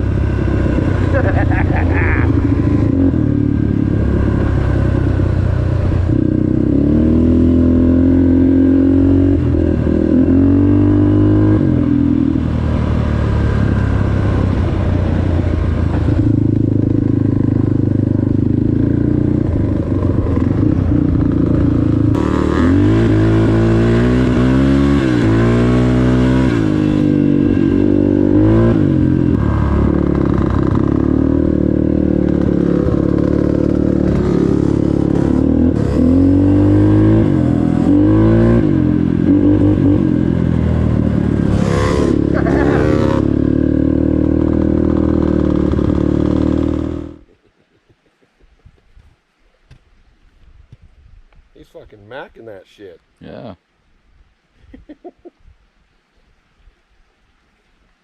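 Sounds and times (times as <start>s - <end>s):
off-road vehicle engine revving: 0.0s - 47.3s.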